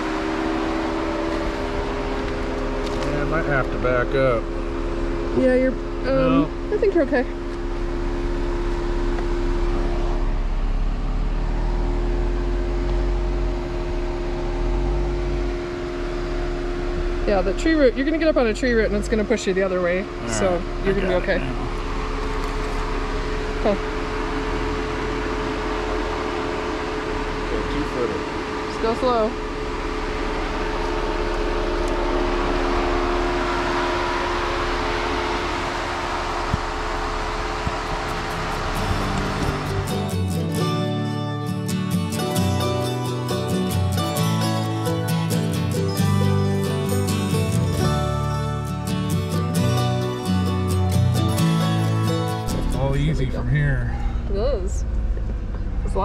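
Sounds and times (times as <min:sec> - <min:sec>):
engine rumbling at low revs: 0:00.0 - 0:56.0
steady hum: 0:00.0 - 0:56.0.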